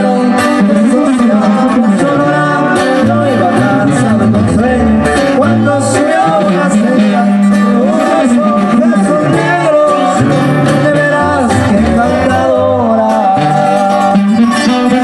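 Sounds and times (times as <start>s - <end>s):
live band music: 0.0s - 15.0s
man singing: 0.0s - 15.0s
sousaphone bass notes: 0.0s - 15.0s.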